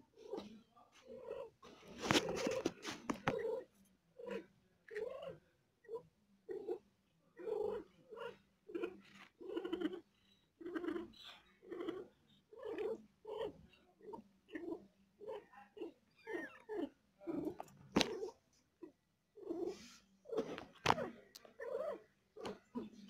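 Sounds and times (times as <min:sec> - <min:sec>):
cat moaning: 0:00.2 - 0:06.8, 0:07.4 - 0:23.0.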